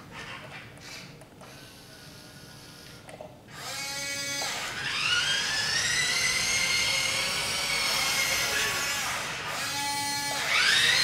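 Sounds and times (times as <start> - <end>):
small electric motor whining: 0.1 - 11.0.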